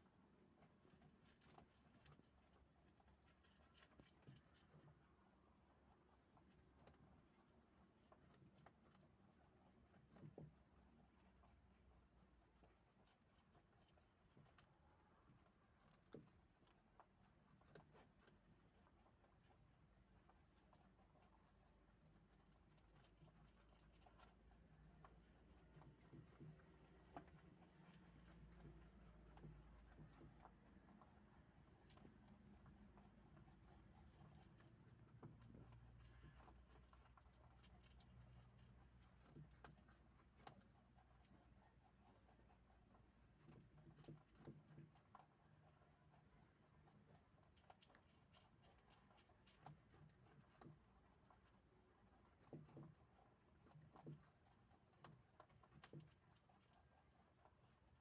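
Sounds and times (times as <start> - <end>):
rabbits chewing food: 0.0 - 58.0.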